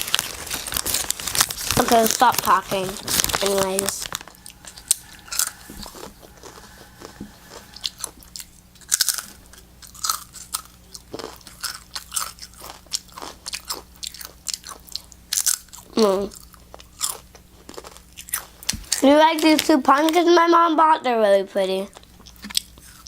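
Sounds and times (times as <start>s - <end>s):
chips crunching being chewed: 0.0s - 19.7s, 22.0s - 23.0s.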